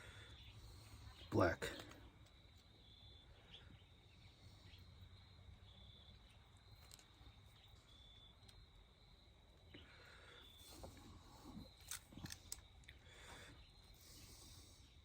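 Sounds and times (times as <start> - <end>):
insects buzzing and chirping: 0.0 - 15.0.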